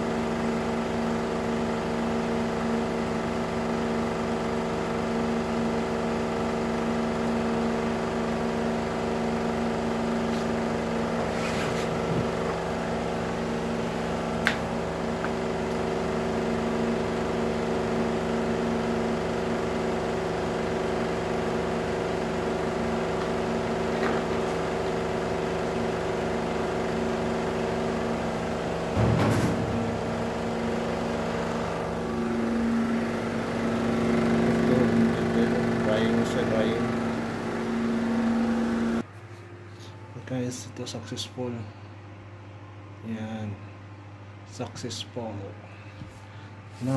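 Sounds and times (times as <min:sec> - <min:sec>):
autoclave machine hum: 0:00.0 - 0:46.9.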